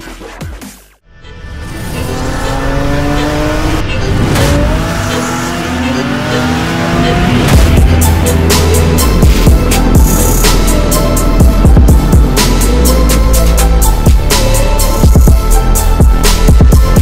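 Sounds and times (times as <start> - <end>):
car engine accelerating: 1.3 - 17.0.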